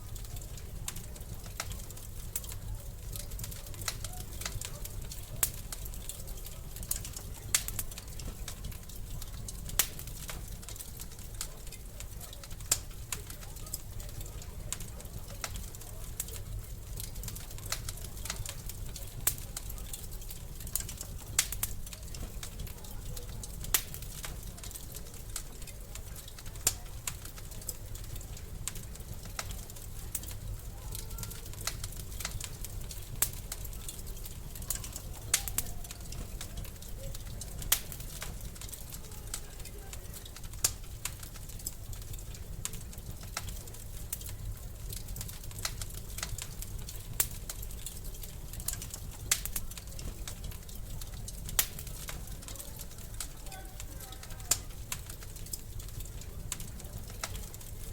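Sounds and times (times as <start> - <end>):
low rumble of flames: 0.0 - 57.9
wood fire crackling: 0.0 - 57.9.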